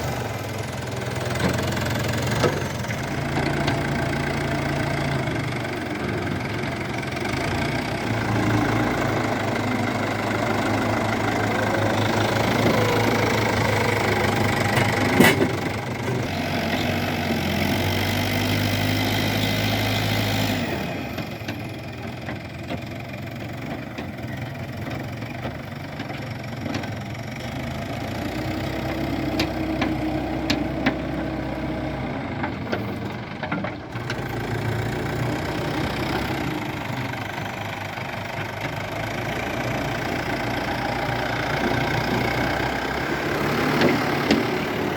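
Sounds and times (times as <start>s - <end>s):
diesel engines running: 0.0s - 44.9s.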